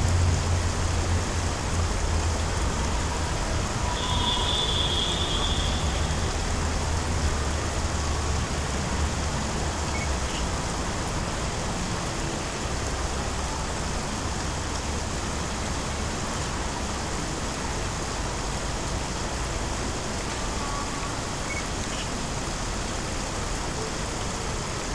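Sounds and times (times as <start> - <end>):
distant city traffic rumble: 0.0 - 24.9.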